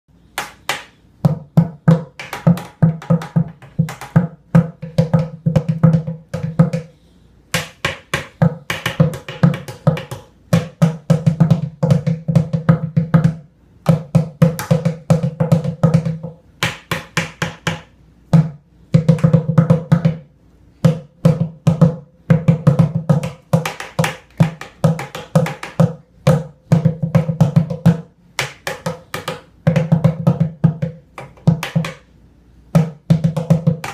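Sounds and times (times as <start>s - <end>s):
drumsticks beating plastic bucket: 0.4s - 6.9s, 7.6s - 20.2s, 20.8s - 32.0s, 32.8s - 33.9s.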